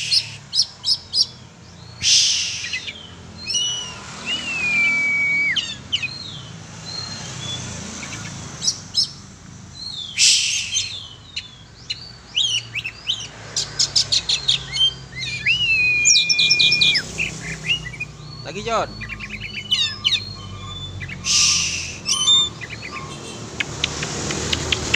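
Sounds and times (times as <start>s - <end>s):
bird singing whistled notes: 0.0s - 9.2s, 9.8s - 23.2s.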